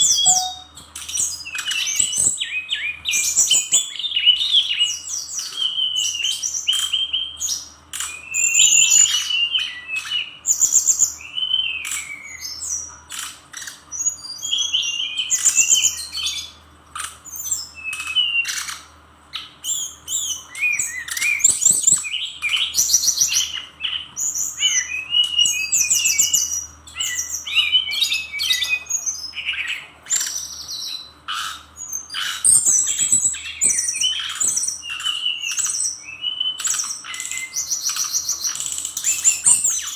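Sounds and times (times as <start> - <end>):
bird song with trills and whistles: 0.0 - 39.9.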